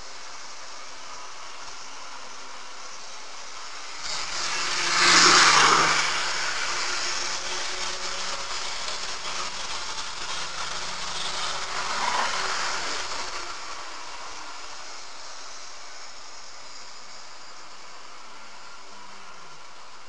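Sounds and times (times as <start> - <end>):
model train rolling on track: 0.0 - 20.0.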